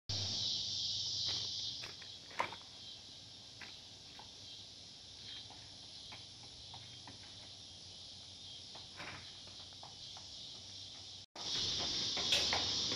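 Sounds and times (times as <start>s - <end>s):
footsteps on outdoor stairs: 0.1s - 12.9s
insects buzzing: 0.1s - 12.9s.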